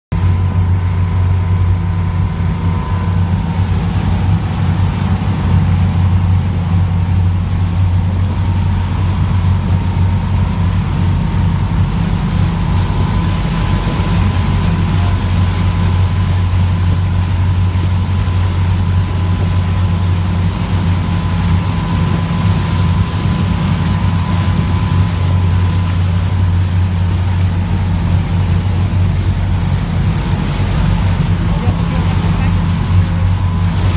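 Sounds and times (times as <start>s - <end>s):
faint whine: 0.1s - 33.9s
motorboat engine droning: 0.1s - 33.9s
water rushing past hull: 0.2s - 33.9s.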